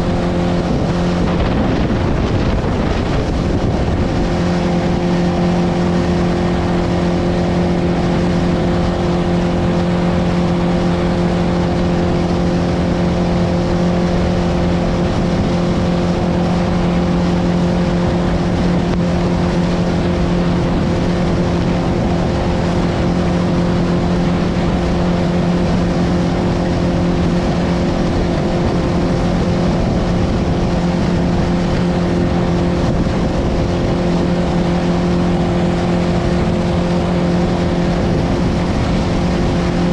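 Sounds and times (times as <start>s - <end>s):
boat motor running: 0.0s - 39.9s
wind and water rushing: 0.0s - 39.9s.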